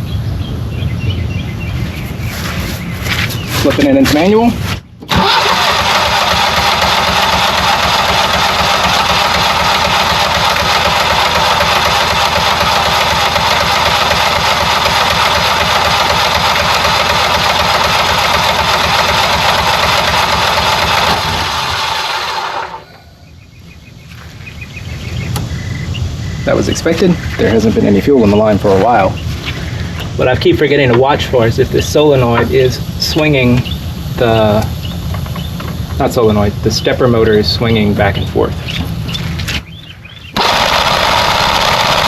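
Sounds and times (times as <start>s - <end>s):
generator engine cranking: 5.0s - 23.0s, 25.2s - 42.0s.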